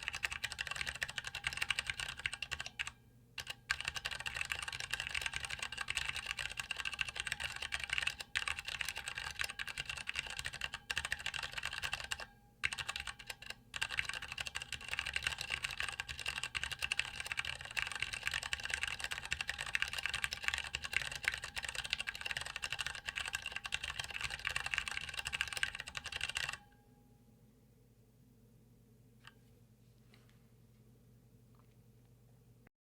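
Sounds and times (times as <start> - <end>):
fast typing on mechanical keyboard: 0.0 - 26.6.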